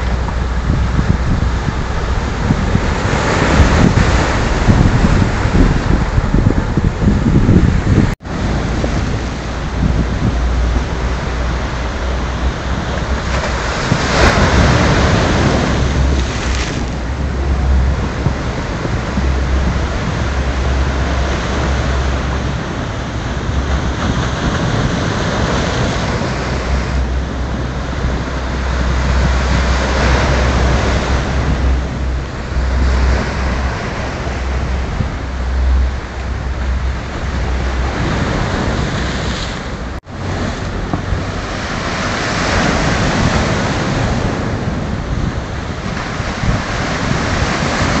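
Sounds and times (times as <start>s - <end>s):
surf breaking on shore: 0.0s - 48.0s
wind buffeting microphone: 0.0s - 48.0s.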